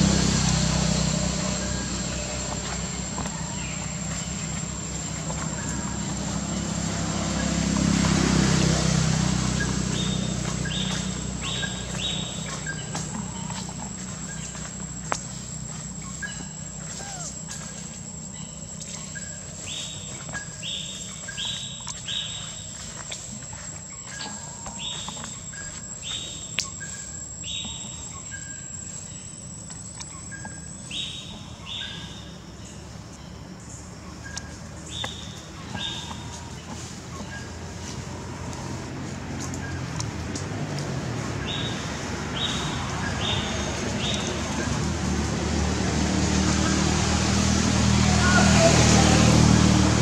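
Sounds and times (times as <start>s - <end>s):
high-pitched insect drone: 0.0s - 50.0s.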